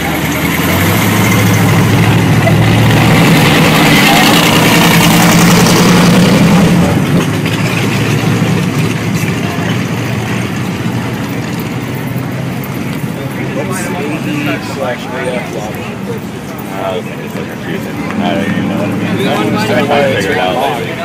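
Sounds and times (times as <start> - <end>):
crowd chatter: 0.0 - 21.0.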